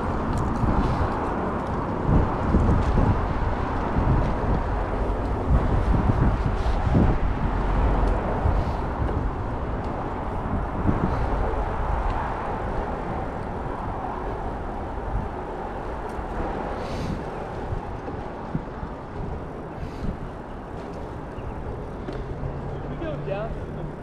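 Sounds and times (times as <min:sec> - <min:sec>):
bicycle rolling noise: 0:00.0 - 0:24.0
wind rush: 0:00.0 - 0:24.0.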